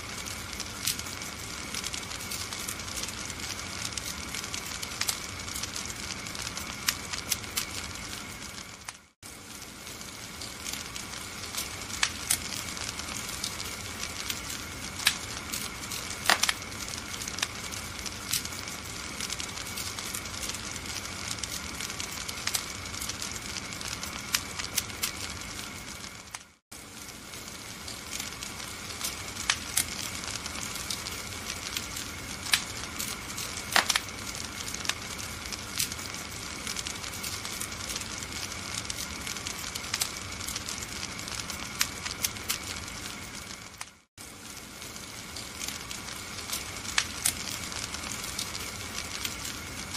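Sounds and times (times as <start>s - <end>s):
fire hissing: 0.0s - 49.9s
fire popping: 0.0s - 49.9s
wood fire crackling: 0.0s - 49.9s.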